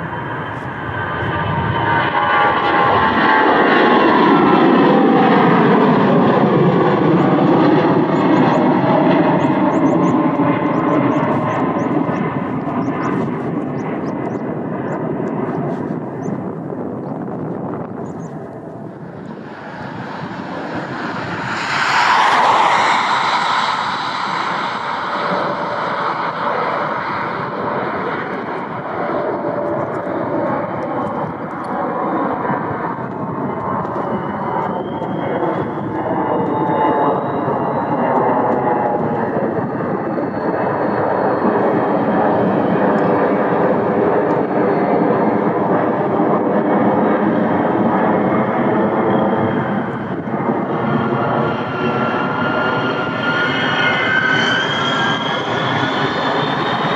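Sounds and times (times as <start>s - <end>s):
jet airliner engines whining: 0.0s - 56.9s.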